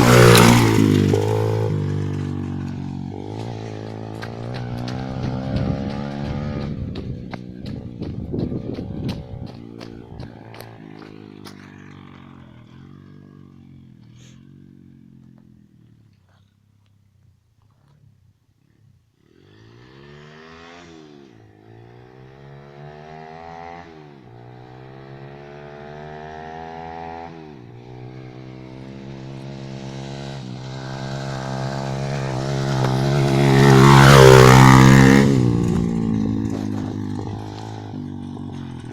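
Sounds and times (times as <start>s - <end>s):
pit bike engine revving: 0.0s - 15.5s, 19.2s - 38.9s.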